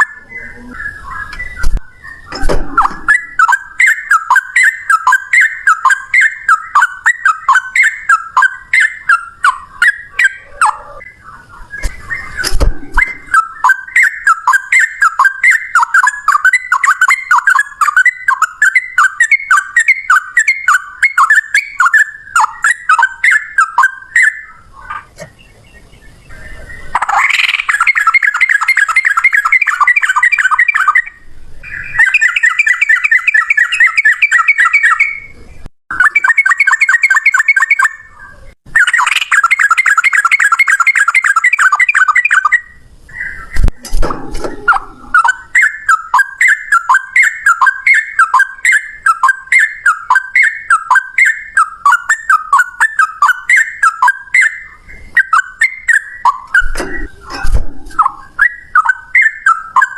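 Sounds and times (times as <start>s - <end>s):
bird trilling: 0.0s - 25.3s, 26.2s - 59.9s
bird chattering: 0.0s - 59.9s.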